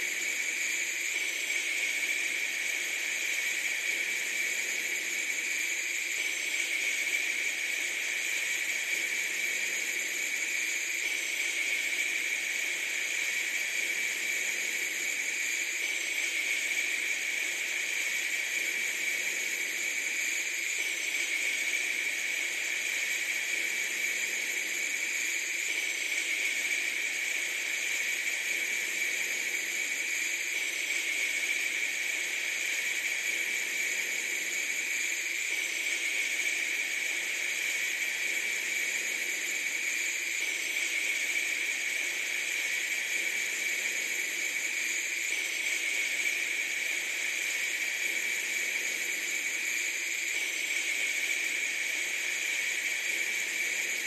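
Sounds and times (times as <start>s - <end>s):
steady hiss of noise: 0.0s - 54.0s.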